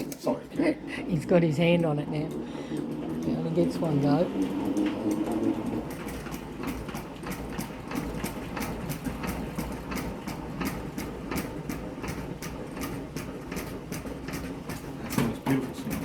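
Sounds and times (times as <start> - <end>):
low rumble of spinning drum: 0.6 - 16.0
honey extractor gearing clicking: 1.0 - 16.0.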